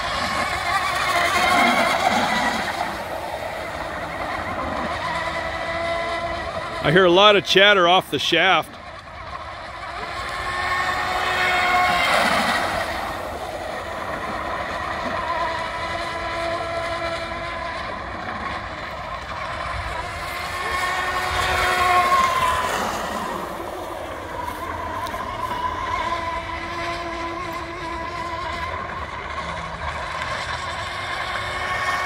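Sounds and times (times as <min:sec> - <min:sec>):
rc boat motor whine: 0:00.0 - 0:32.0.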